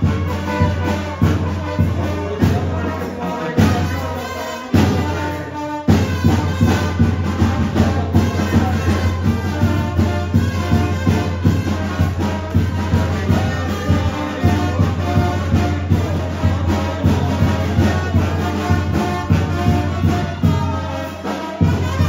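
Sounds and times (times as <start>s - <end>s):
brass band music: 0.0s - 22.0s.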